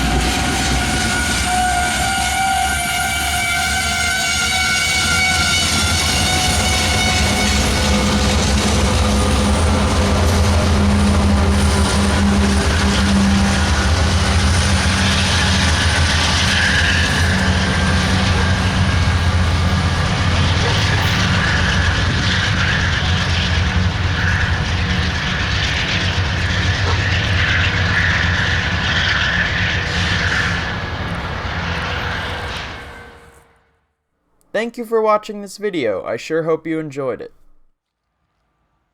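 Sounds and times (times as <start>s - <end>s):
train wheels rolling on rails: 0.0s - 33.6s
diesel locomotive engines droning: 0.0s - 33.9s.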